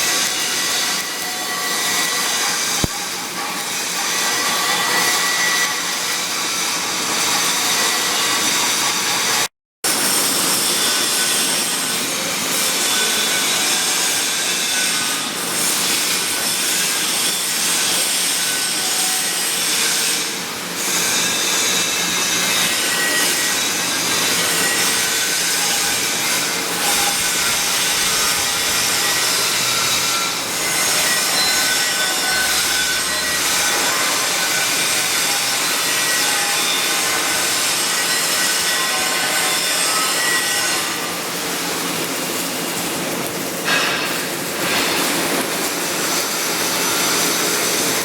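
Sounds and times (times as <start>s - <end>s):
angle grinder grinding metal: 0.0s - 42.8s.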